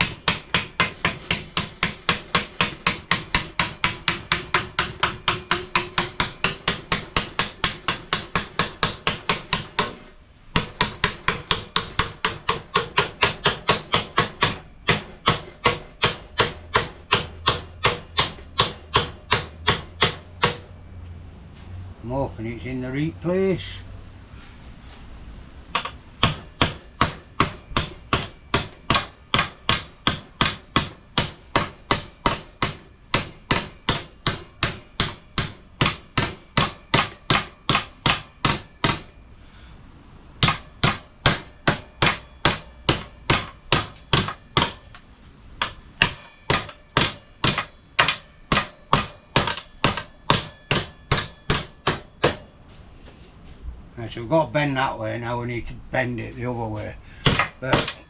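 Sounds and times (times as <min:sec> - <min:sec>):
hammer on sheet steel: 0:00.0 - 0:20.8, 0:25.7 - 0:39.2, 0:40.4 - 0:52.6, 0:56.8 - 0:58.0.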